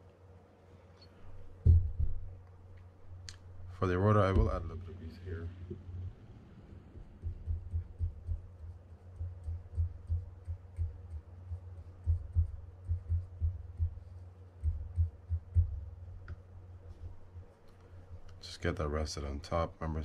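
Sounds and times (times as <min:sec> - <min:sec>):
brush dabbing low thumps: 0:01.3 - 0:06.2, 0:06.8 - 0:18.3.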